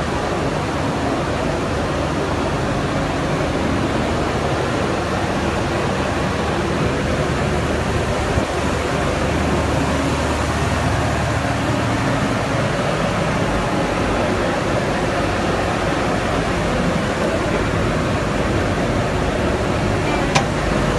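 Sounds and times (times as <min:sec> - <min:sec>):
dryer machine rushing noise: 0:00.0 - 0:20.9.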